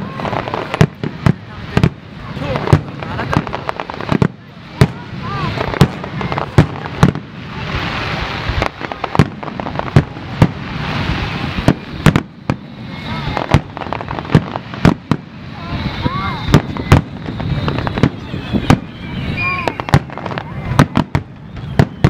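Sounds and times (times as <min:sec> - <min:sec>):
crackling hiss: 0:00.0 - 0:22.0
firework shells bursting: 0:00.0 - 0:22.0.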